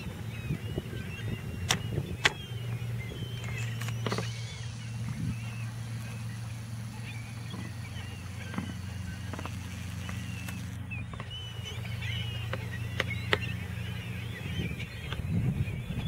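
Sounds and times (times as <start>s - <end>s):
gulls calling: 0.0s - 16.0s
low hum: 0.0s - 16.0s.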